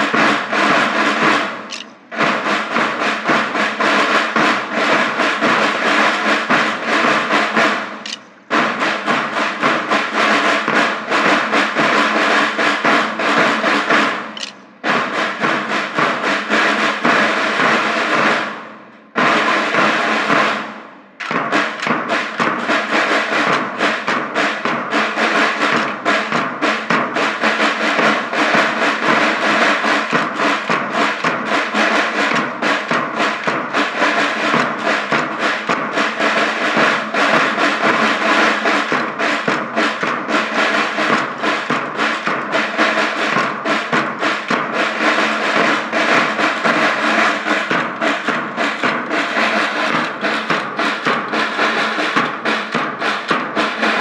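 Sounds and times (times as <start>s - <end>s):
snare drum rolls: 0.0s - 54.0s.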